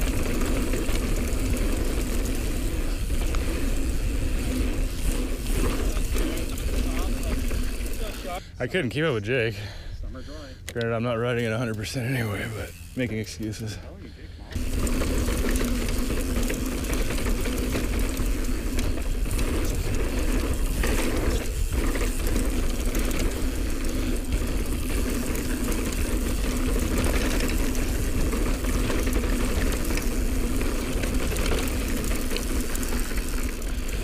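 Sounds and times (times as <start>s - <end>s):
bike tyres rolling over dirt: 0.0s - 9.1s, 14.6s - 34.0s
bike drivetrain rattling: 0.0s - 34.0s.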